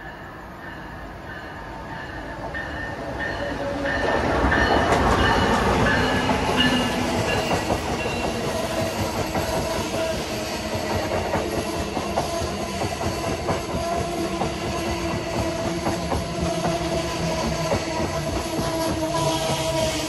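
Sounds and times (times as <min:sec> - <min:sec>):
train passing on tracks: 0:00.0 - 0:20.0.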